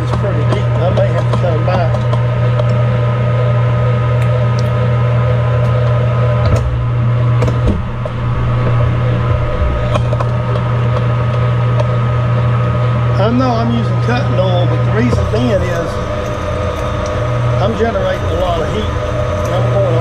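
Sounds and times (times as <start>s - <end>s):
metal lathe humming: 0.0s - 20.0s.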